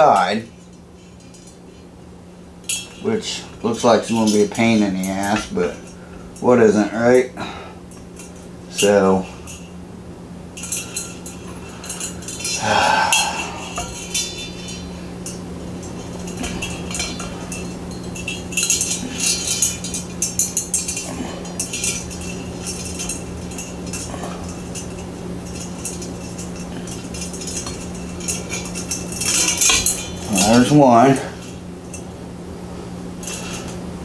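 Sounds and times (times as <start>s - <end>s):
metal ball chains clinking: 2.6s - 7.3s, 7.9s - 9.8s, 10.6s - 32.2s, 33.1s - 33.9s.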